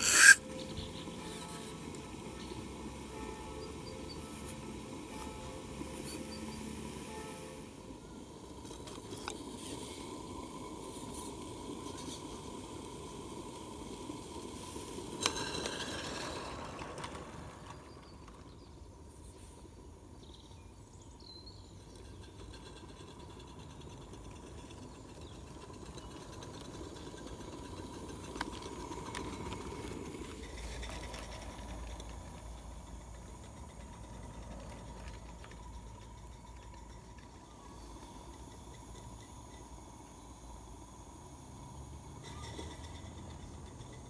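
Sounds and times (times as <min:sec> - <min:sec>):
steam locomotive hissing: 0:00.0 - 0:18.1, 0:21.7 - 0:44.0.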